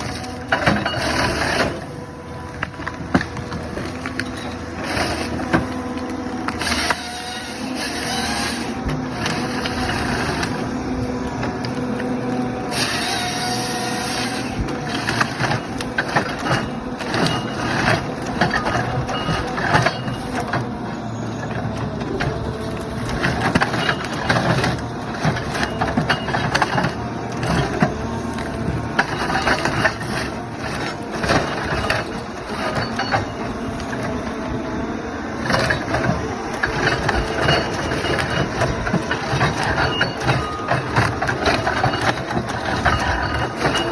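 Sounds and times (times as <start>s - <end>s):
wood cracking and crunching: 0.0s - 34.6s, 35.3s - 43.9s
harvester engine droning: 0.0s - 43.9s.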